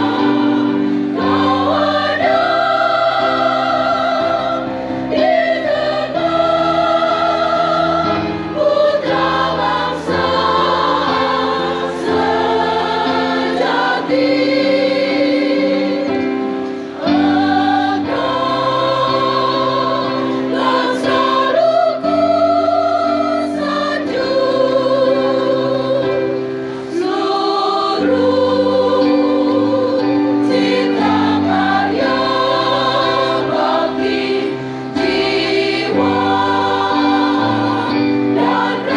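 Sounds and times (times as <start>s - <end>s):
large choir singing anthem: 0.0s - 38.9s.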